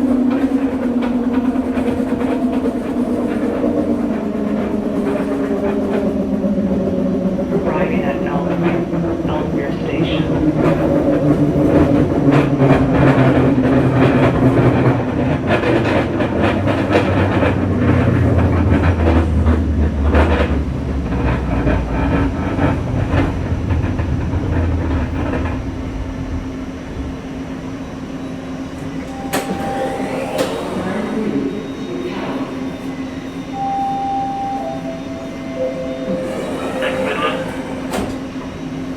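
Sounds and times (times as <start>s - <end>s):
train rumble: 0.0s - 38.9s.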